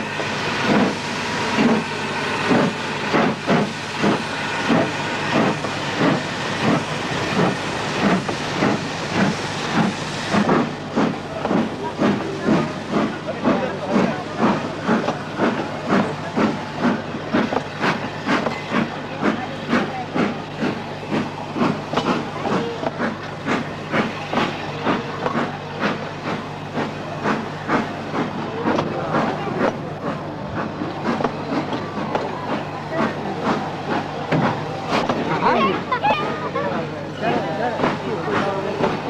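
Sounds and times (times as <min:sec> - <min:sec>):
steam hissing: 0:00.0 - 0:36.0
steam locomotive chuffing: 0:00.0 - 0:39.0.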